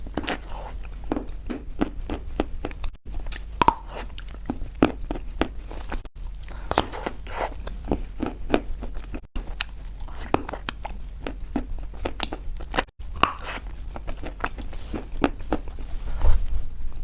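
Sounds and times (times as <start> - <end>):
chalk crunching while chewed: 0.0 - 16.0.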